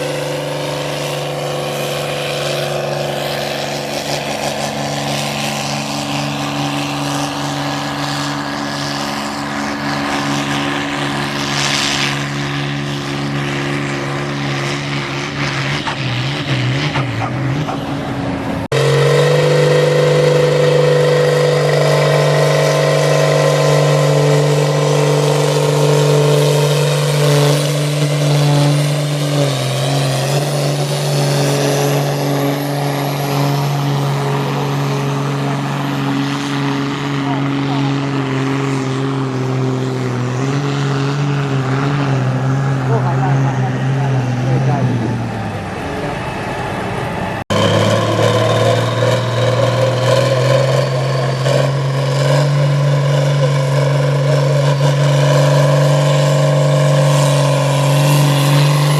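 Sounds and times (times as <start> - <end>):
tractor engine at high revs: 0.0 - 58.9.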